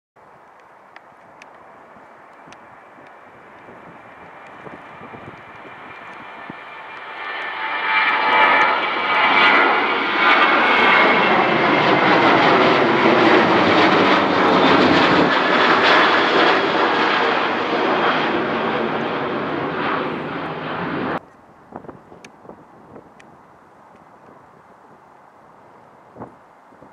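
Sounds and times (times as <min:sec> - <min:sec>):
jet engines at takeoff: 0:00.2 - 0:26.9.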